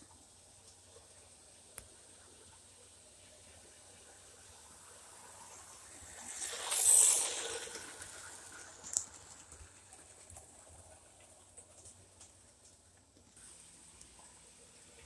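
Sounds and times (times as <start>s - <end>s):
model train running past: 0.0s - 15.0s.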